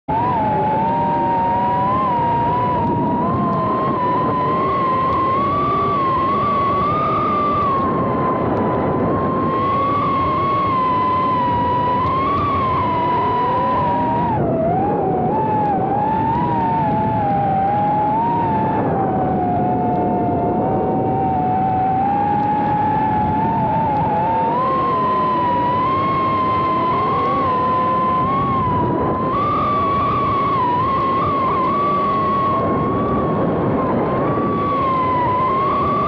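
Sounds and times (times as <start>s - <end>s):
lower motor whine: 0.0s - 36.0s.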